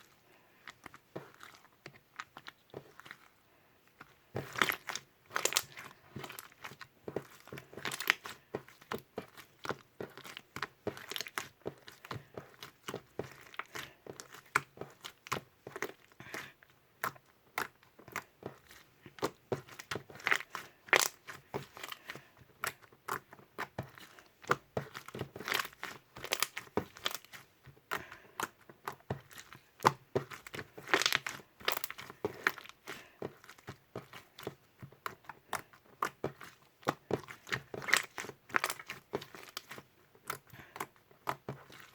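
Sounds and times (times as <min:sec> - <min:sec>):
slime crackling and popping: 0:04.4 - 0:41.9.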